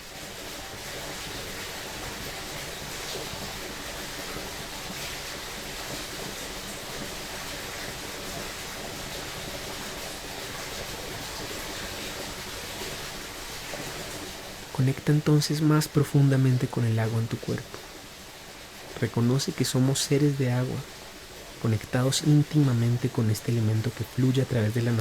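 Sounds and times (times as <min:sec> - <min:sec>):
stream flowing: 0:00.1 - 0:25.0.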